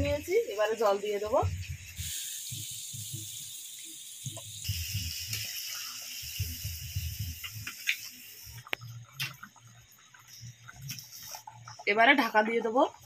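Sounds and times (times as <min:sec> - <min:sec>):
water sizzling in hot pan: 0:00.0 - 0:13.0.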